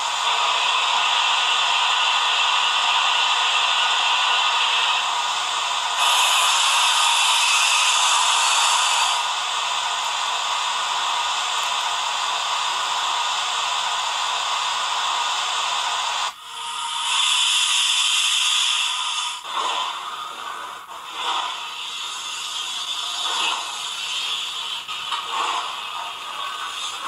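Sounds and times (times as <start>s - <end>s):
steam hiss: 0.0s - 27.0s.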